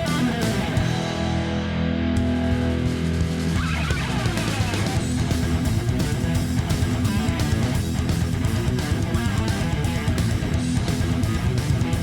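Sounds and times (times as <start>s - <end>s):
strummed electric guitar music: 0.0s - 12.0s.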